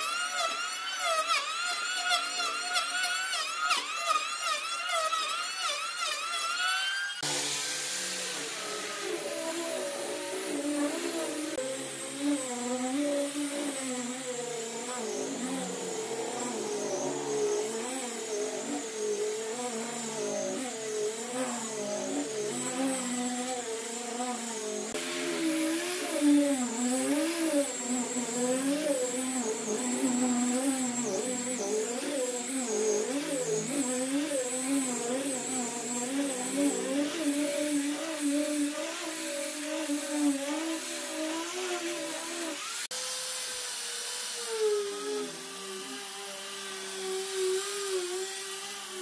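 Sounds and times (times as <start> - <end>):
power tool motor running: 0.0 - 49.0.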